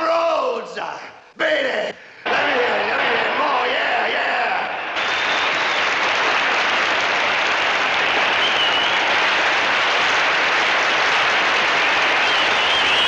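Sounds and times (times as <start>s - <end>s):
crowd applause: 2.3s - 13.0s.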